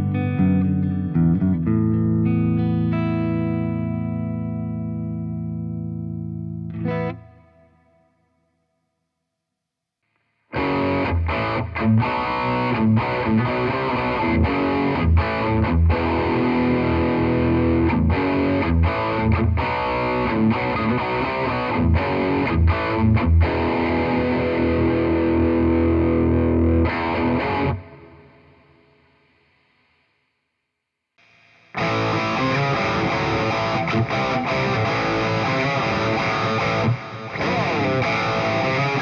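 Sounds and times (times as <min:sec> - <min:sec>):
distorted electric guitar riff: 0:00.0 - 0:08.0, 0:10.5 - 0:30.0, 0:31.2 - 0:39.0.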